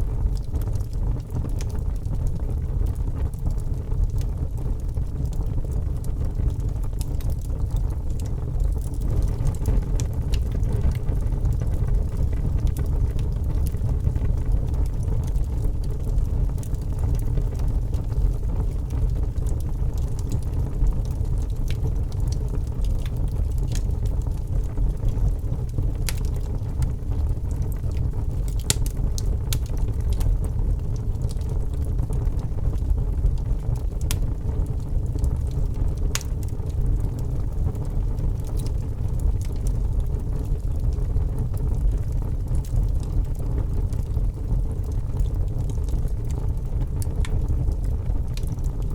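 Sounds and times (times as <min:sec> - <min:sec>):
fire crackling and popping: 0:00.0 - 0:48.9
low rumble of flames: 0:00.0 - 0:48.9.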